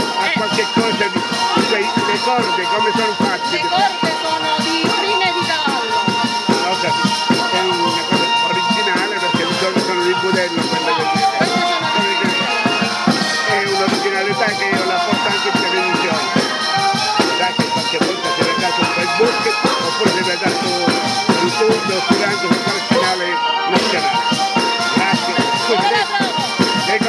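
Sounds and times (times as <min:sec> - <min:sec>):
folk group playing dance tune: 0:00.0 - 0:27.0
tambourines beating: 0:00.0 - 0:27.0.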